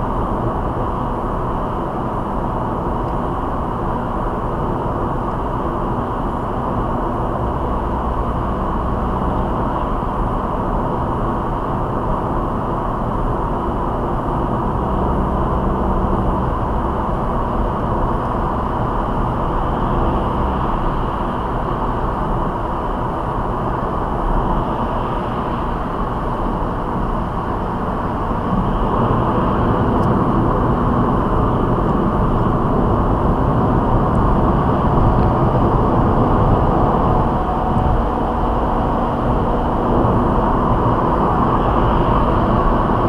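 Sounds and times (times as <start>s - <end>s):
low engine drone: 0.0s - 43.0s.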